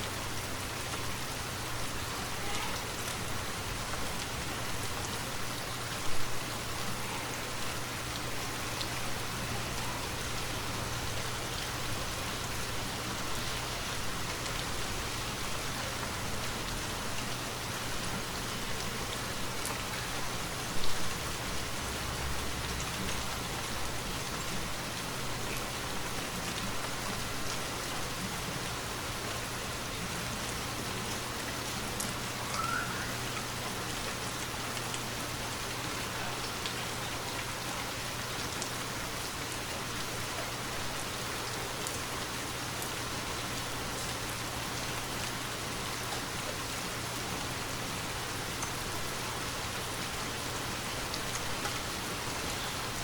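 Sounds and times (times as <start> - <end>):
rain falling through trees: 0.0 - 53.0.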